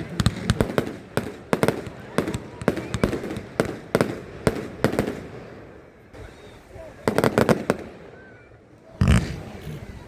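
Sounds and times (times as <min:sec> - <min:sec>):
fireworks bangs: 0:00.0 - 0:05.6, 0:06.2 - 0:08.2, 0:09.0 - 0:10.0.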